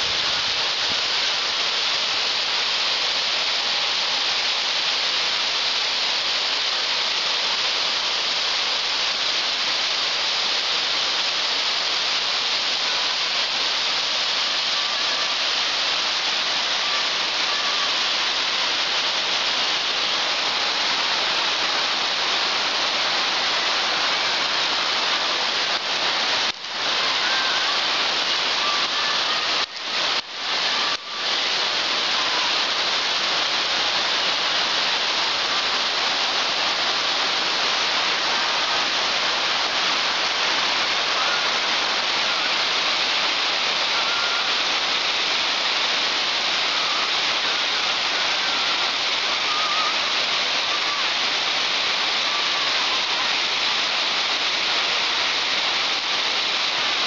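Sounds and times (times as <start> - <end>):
waterfall rushing down rock: 0.0 - 57.0.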